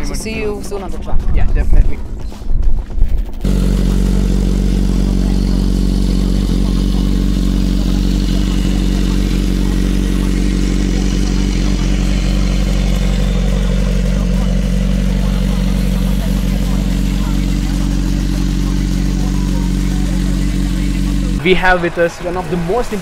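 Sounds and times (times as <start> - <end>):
motorcycle engine idling: 3.4 - 23.0.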